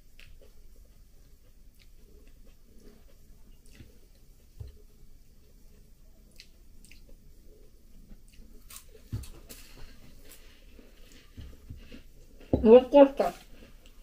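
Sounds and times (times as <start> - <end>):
chewing crisp wafer biscuit: 0.0 - 12.5.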